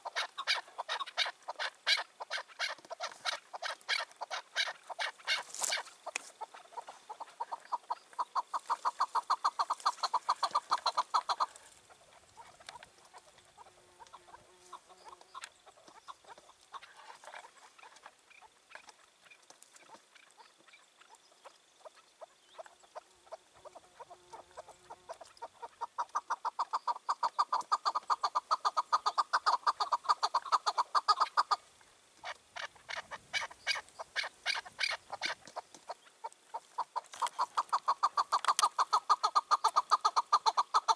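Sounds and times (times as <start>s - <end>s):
partridge calling: 0.0s - 40.9s.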